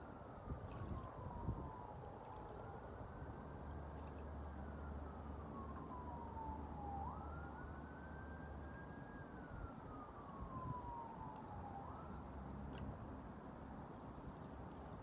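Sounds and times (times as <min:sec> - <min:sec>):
faint siren wailing: 0:00.0 - 0:13.8
wind: 0:00.0 - 0:15.0.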